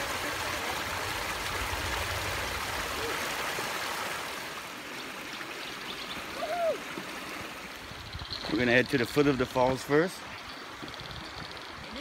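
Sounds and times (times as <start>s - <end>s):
creek water splashing over rocks: 0.0s - 12.0s.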